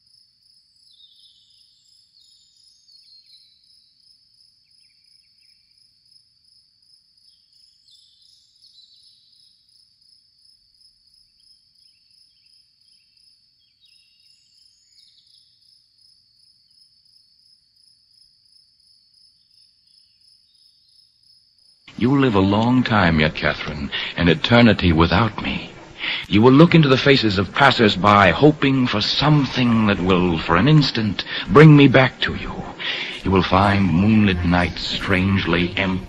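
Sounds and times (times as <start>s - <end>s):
insect chirps: 0.0s - 33.9s
crickets trilling: 0.0s - 36.0s.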